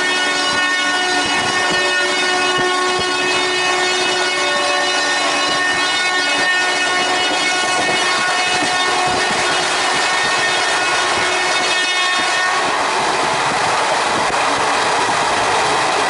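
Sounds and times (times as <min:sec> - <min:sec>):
train horn blast: 0:00.0 - 0:13.0
train wheels on rails: 0:00.0 - 0:16.0.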